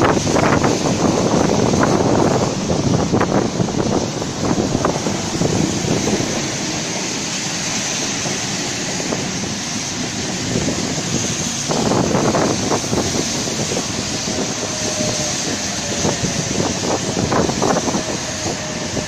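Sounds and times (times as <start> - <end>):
train passing slowly rumbling: 0.0 - 19.0
wind buffeting microphone: 0.0 - 19.0.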